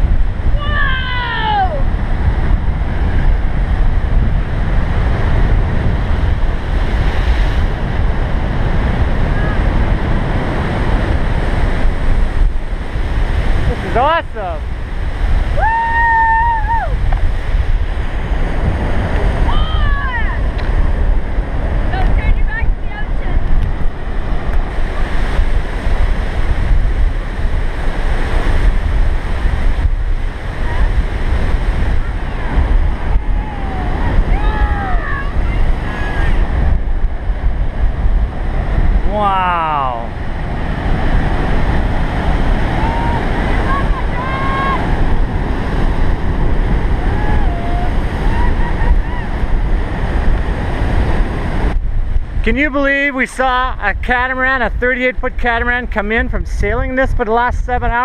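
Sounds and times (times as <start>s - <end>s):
surf breaking ashore: 0.0s - 58.0s
wind buffeting microphone: 0.0s - 58.0s.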